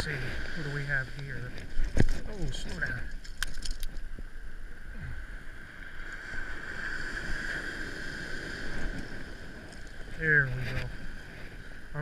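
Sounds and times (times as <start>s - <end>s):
ocean surf on beach: 0.0s - 12.0s.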